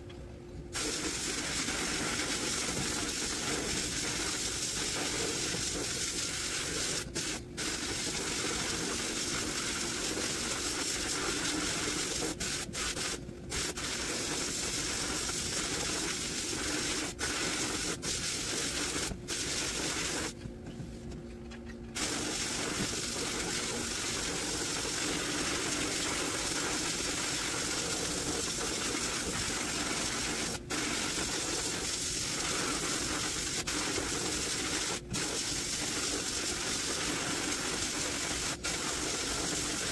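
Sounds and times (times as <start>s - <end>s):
sandblast gun hissing: 0.8s - 20.4s, 22.0s - 39.9s.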